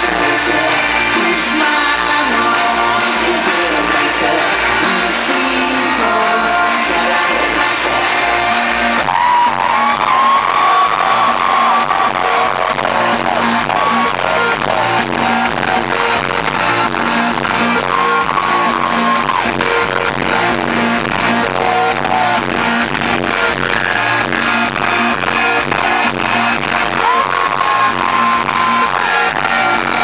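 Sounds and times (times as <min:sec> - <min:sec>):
live rock band playing: 0:00.0 - 0:30.0.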